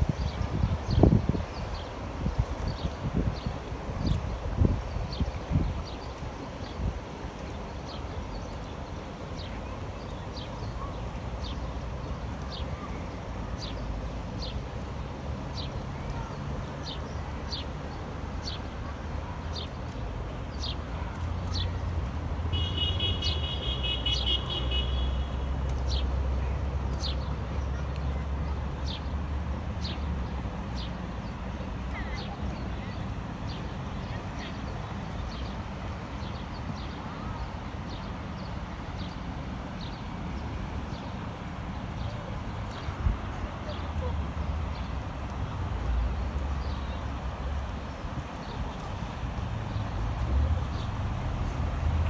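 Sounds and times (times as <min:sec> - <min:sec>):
low traffic rumble: 0:00.0 - 0:52.0.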